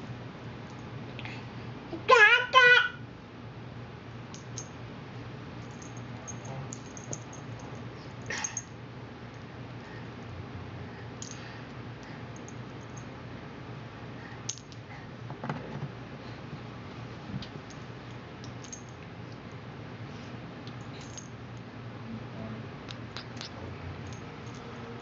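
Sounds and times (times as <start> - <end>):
steady low hum: 0.0 - 2.2, 3.0 - 25.0.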